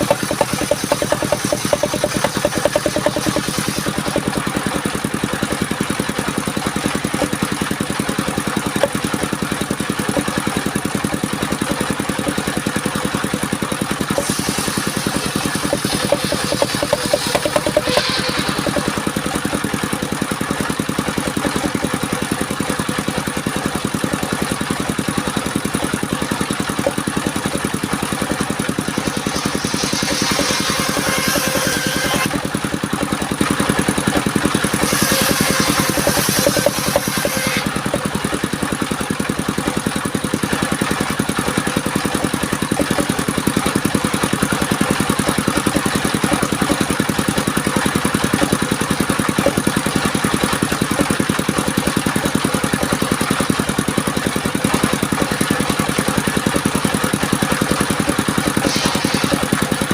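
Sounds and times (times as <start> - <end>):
saw blade cutting log: 0.0 - 59.9
sawmill engine running: 0.0 - 59.9.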